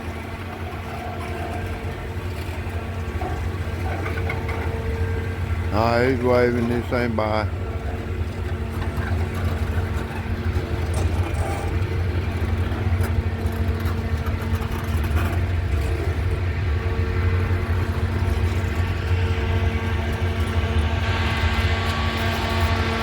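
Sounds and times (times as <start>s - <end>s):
diesel locomotive engine droning: 0.0s - 23.0s
steady hum: 0.0s - 23.0s.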